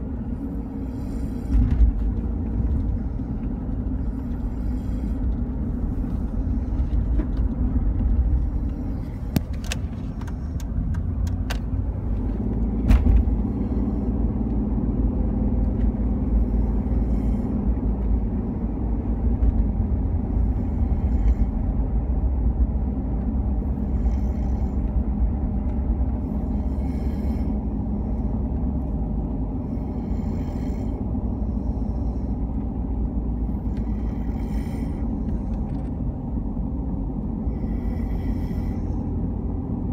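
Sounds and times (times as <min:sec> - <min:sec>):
soft breaths: 0:00.0 - 0:14.8, 0:15.4 - 0:39.9
steady low rumble: 0:00.0 - 0:39.9.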